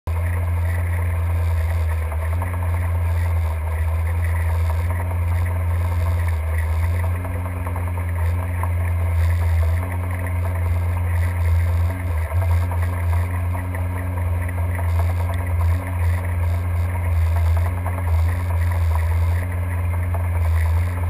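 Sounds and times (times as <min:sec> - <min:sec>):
boat engine humming underwater: 0:00.0 - 0:21.0.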